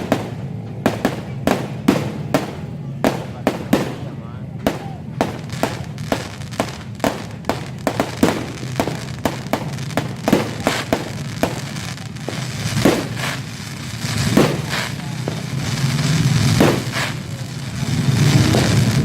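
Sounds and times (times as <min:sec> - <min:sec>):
fireworks bangs: 0:00.0 - 0:19.0
low background rumble: 0:00.0 - 0:19.0.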